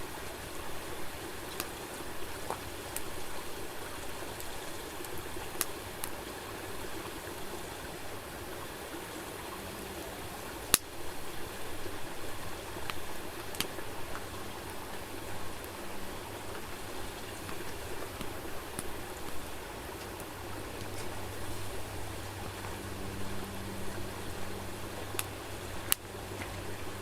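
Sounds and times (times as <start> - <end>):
campfire crackling and popping: 0.9 - 6.2, 10.0 - 27.0.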